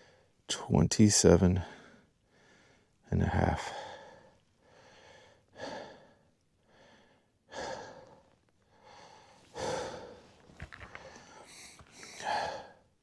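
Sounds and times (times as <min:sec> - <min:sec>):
man breathing heavily: 0:01.6 - 0:03.0, 0:03.7 - 0:12.9.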